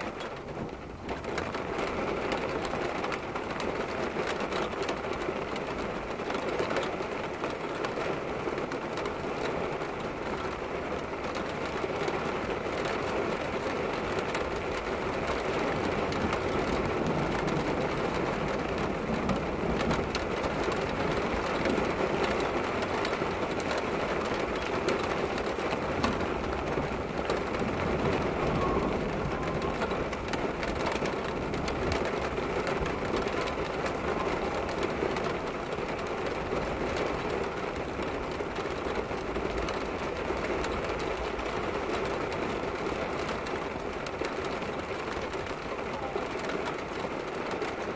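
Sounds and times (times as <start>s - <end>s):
heavy rain on window glass: 0.0s - 47.9s.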